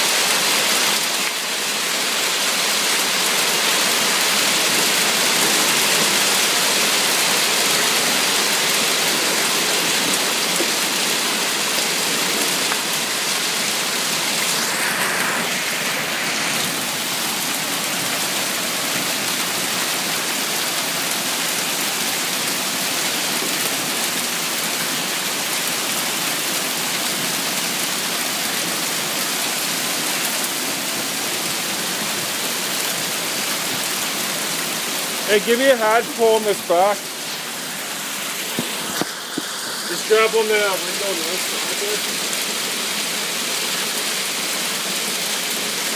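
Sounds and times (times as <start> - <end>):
hail and heavy rain: 0.0 - 45.9.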